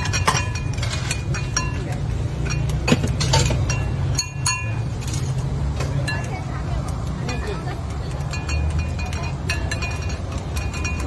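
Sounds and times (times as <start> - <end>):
utensils clinking on bowls: 0.0 - 11.0.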